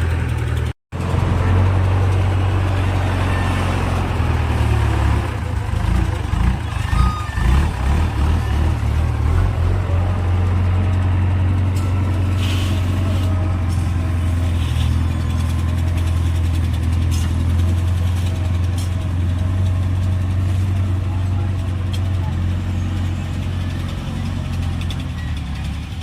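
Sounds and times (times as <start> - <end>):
backhoe diesel engine running: 0.0 - 26.0.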